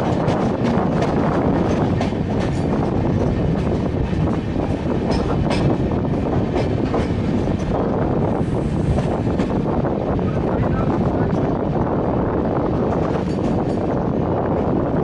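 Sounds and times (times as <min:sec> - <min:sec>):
rail joint clicks: 0:00.0 - 0:15.0
train wheels rumbling on rail: 0:00.0 - 0:15.0.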